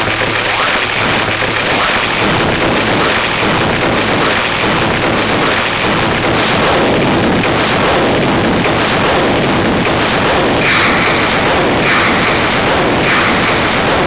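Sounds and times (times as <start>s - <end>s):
rumbling synthesizer noise drone: 0.0s - 14.0s.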